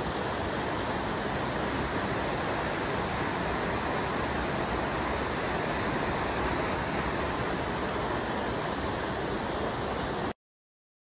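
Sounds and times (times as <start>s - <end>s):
water rushing over rocks: 0.0s - 10.4s.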